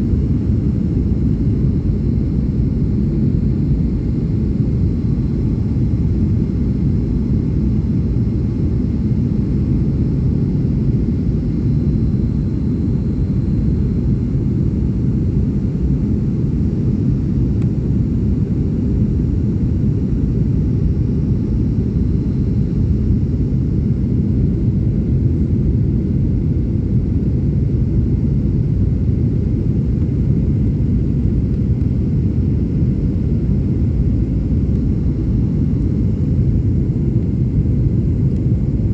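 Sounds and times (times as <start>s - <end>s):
aircraft engines and airflow rumble: 0.0s - 38.9s.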